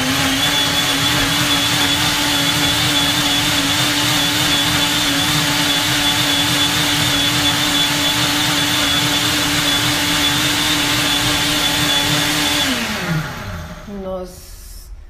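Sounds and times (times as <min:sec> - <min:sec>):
blender running: 0:00.0 - 0:13.9.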